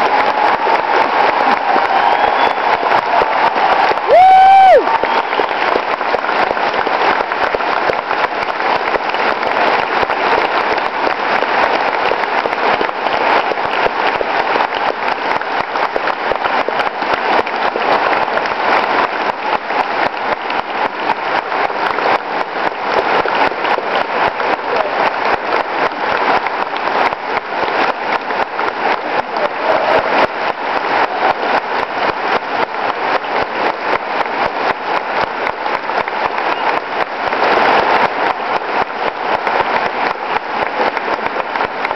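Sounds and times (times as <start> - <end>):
large audience applauding: 0.0 - 41.9.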